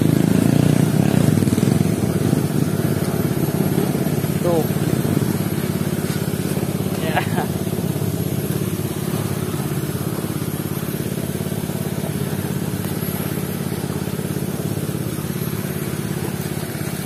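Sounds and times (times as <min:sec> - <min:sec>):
small engine putter: 0:00.0 - 0:17.0.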